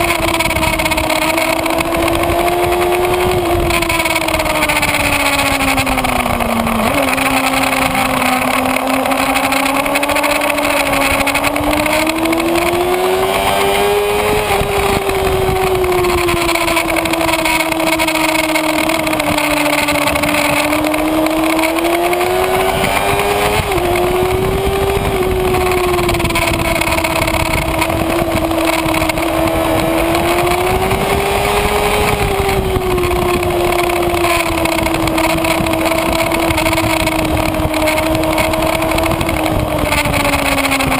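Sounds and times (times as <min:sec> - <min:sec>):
motorcycle engine under load: 0:00.0 - 0:40.9
wind noise: 0:00.0 - 0:40.9.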